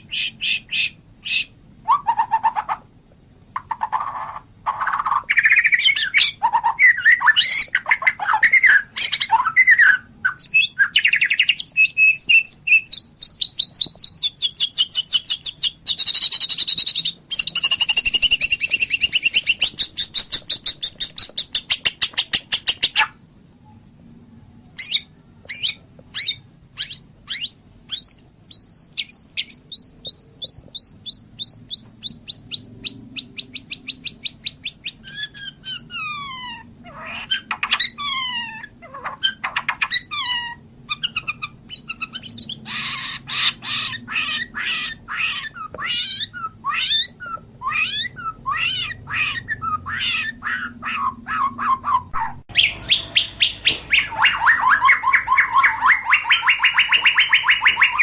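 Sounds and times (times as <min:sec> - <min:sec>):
songbird singing trills and whistles: 0:00.0 - 0:02.8, 0:03.6 - 0:23.8, 0:24.7 - 0:58.0.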